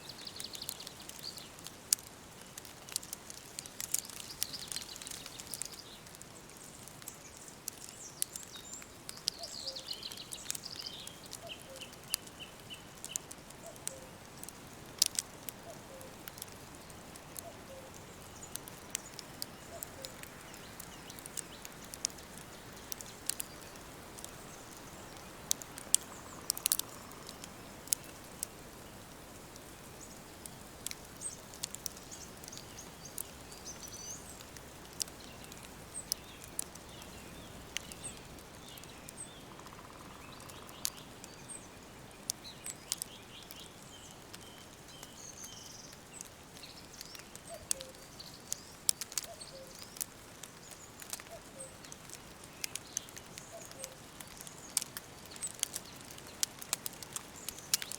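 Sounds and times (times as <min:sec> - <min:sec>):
faint steady hiss: 0:00.0 - 0:57.9
sharp crackles and clicks: 0:00.0 - 0:57.9
songbirds chirping and trilling: 0:00.0 - 0:57.9.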